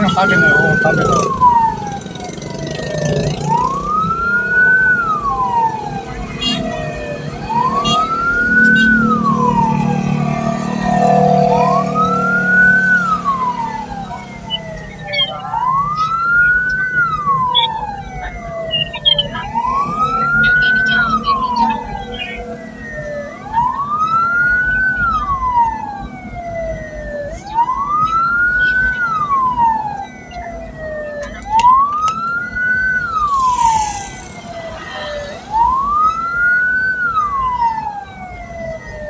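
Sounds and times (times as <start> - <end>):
siren wailing: 0.0 - 39.0
vehicle hum: 0.0 - 39.0.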